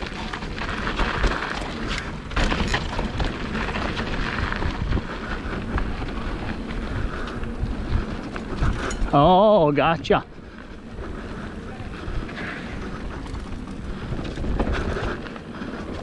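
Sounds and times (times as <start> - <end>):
bike knocks and rattles: 0.0 - 10.0, 11.8 - 16.0
wind buffeting microphone: 0.0 - 16.0.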